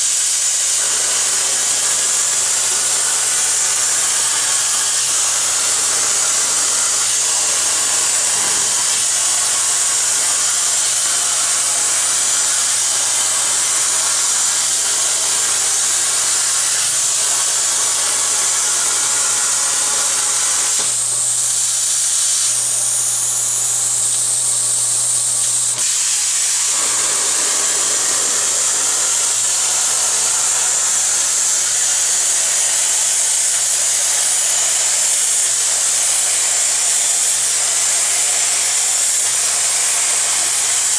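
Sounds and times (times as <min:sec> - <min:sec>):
plasma cutter arc hissing: 0:00.0 - 0:40.9.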